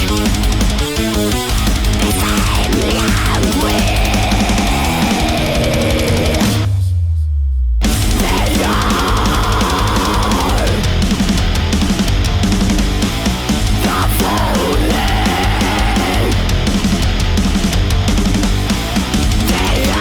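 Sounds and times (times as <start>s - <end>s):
heavy metal song: 0.0s - 7.2s, 7.8s - 20.0s.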